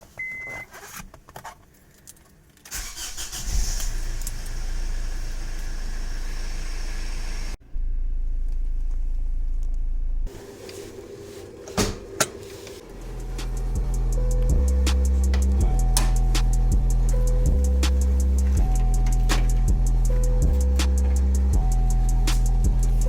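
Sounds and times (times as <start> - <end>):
diesel engine starting and running: 2.7 - 23.0.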